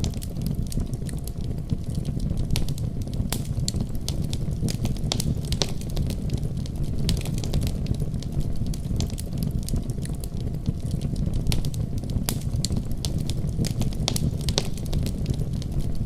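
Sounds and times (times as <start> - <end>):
snowstorm rumble: 0.0 - 16.0
wood fire crackling: 0.0 - 16.0.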